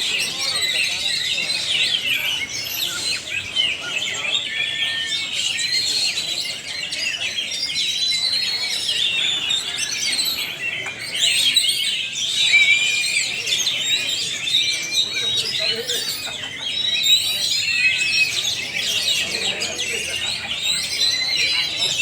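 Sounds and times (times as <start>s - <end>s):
many songbirds singing: 0.0s - 22.0s.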